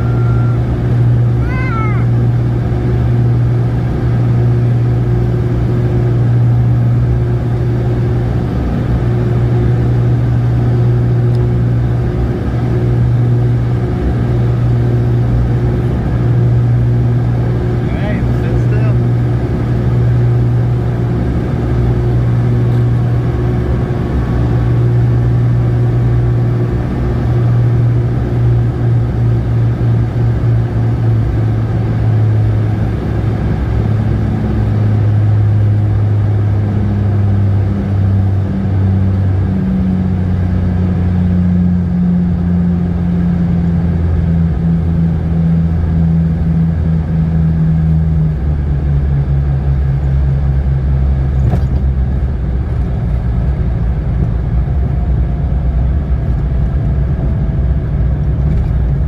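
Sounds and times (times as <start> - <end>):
twin piston engines droning: 0.0 - 8.4, 9.0 - 51.4.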